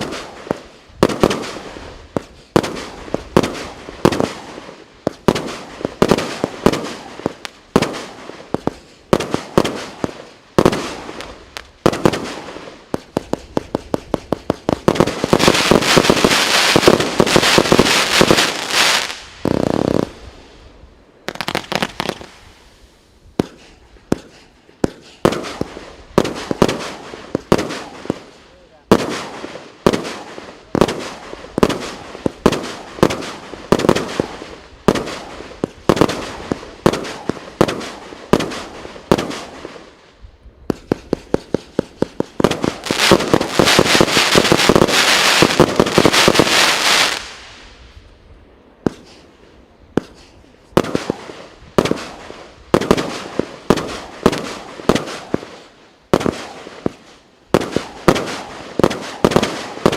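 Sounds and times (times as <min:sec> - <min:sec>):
fireworks bangs: 0:00.0 - 0:40.0, 0:40.6 - 0:59.9.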